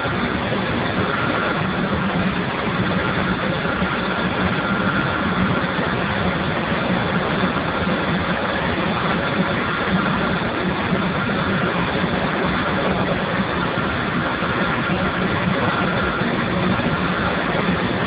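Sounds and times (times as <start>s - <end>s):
low hum: 0.0s - 18.0s
steam boiler rushing: 0.0s - 18.0s.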